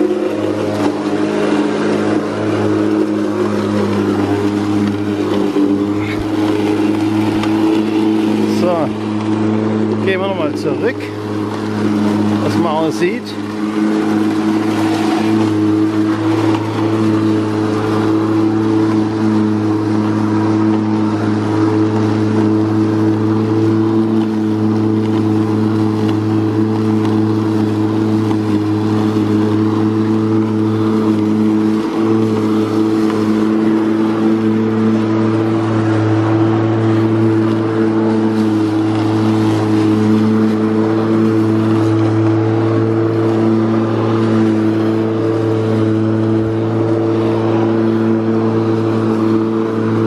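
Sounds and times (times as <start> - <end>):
cordless lawn mower running: 0.0 - 50.0
grass being cut: 0.0 - 50.0.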